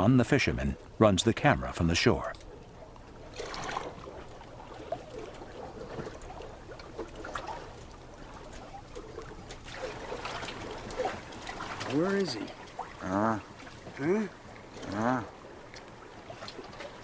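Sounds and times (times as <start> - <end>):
water lapping: 0.0 - 17.0.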